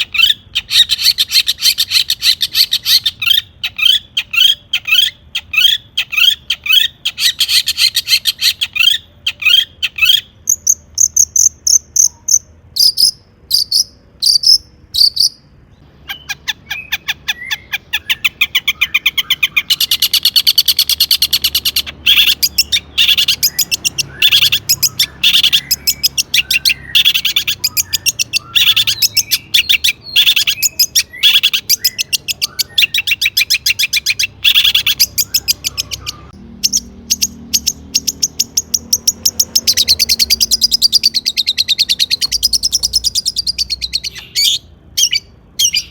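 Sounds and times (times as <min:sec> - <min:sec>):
bird singing fast varied song: 0:00.0 - 0:45.9.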